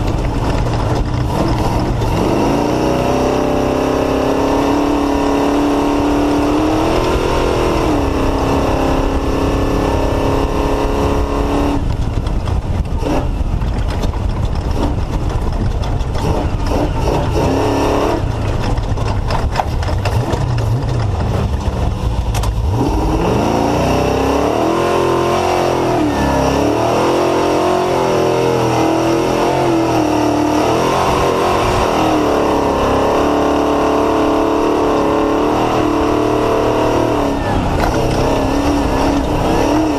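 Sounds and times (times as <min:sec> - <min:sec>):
knocks and rattles: 0:00.0 - 0:09.6, 0:11.1 - 0:23.3, 0:26.2 - 0:39.9
race car engine revving: 0:00.0 - 0:39.9.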